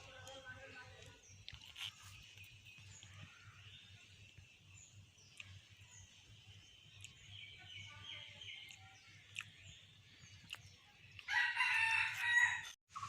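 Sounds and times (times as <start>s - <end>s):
small bird chirps: 0.1s - 11.5s.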